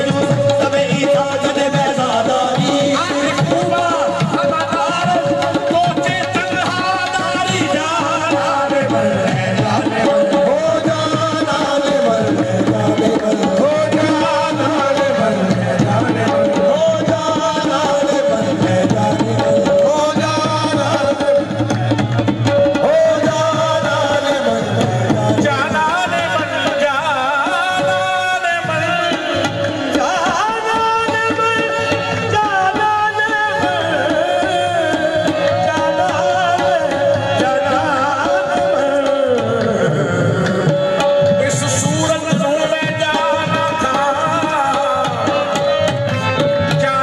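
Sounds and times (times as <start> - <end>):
ornamented singing: 0.0 - 47.0
tabla drumming: 0.0 - 47.0.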